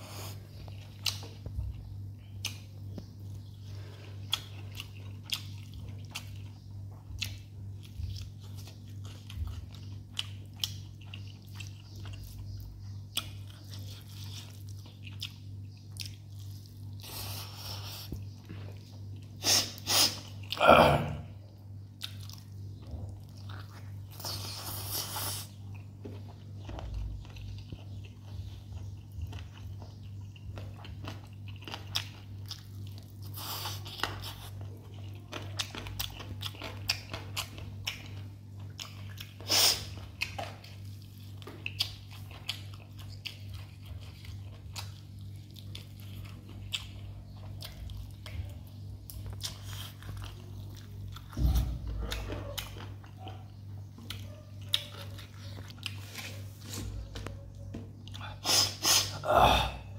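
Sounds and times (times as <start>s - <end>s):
close chewing with wet smacking: 0.5s - 3.6s, 4.2s - 19.4s, 21.8s - 59.0s.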